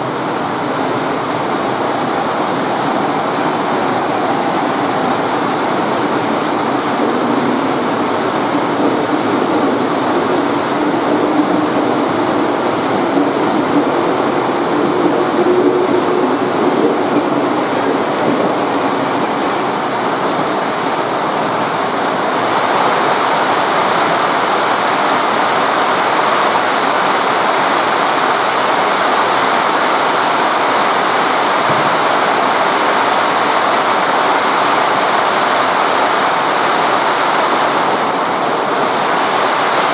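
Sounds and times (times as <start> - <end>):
electric train humming: 0.0 - 39.9
heavy rain pouring: 0.0 - 39.9.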